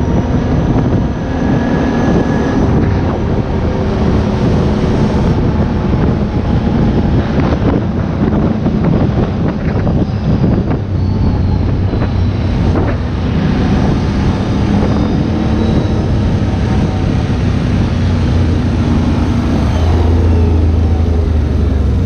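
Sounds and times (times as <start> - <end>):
atv engine running: 0.0 - 22.0
wind noise on microphone: 0.0 - 22.0.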